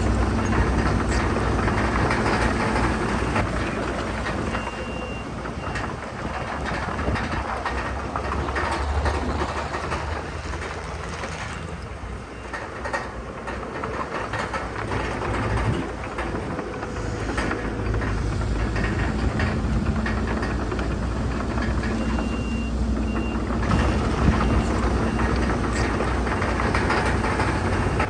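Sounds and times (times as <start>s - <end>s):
bulldozer diesel rumble: 0.0s - 28.0s
steel tracks clanking: 0.0s - 28.0s.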